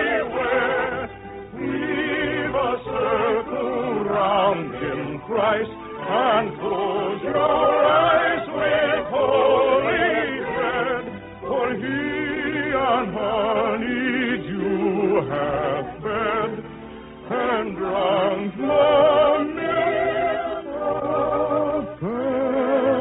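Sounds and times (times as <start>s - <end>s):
musical accompaniment: 0.0s - 23.0s
operatic singing with vibrato: 0.0s - 23.0s.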